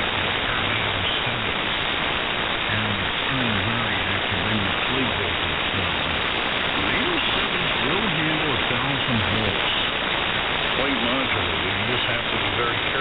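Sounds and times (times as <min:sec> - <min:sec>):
faint radio voice: 0:00.0 - 0:01.7, 0:02.6 - 0:10.1, 0:10.7 - 0:13.0
radio static hiss: 0:00.0 - 0:13.0.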